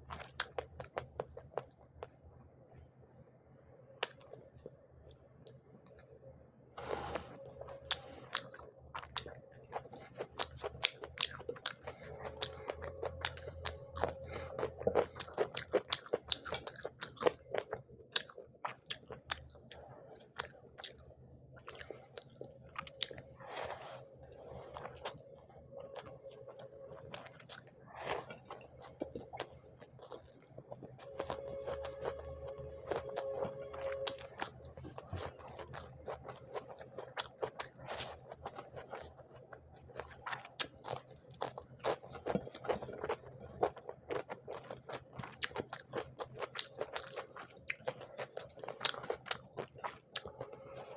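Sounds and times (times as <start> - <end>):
crunchy chewing of fried fish: 0.0 - 2.2, 4.0 - 6.1, 6.8 - 50.9.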